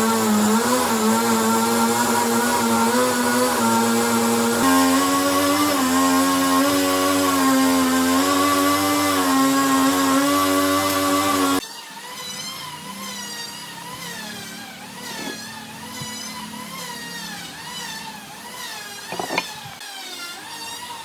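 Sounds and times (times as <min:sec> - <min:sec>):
power tool motor running: 0:00.0 - 0:21.0.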